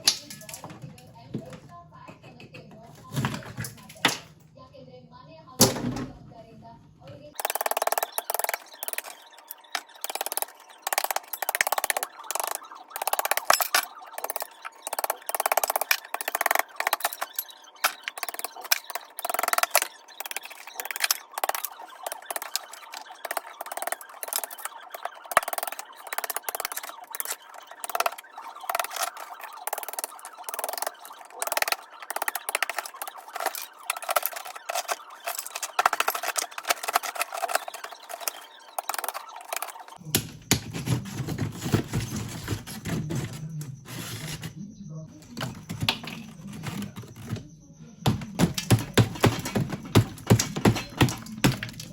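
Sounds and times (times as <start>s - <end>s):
tool chipping and scraping ice: 0.0s - 1.0s, 3.0s - 4.2s, 7.4s - 44.5s, 45.2s - 51.9s.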